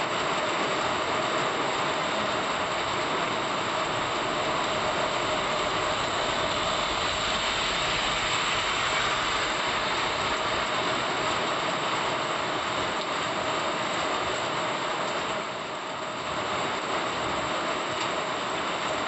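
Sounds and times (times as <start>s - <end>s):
heavy rain on road: 0.0s - 19.0s.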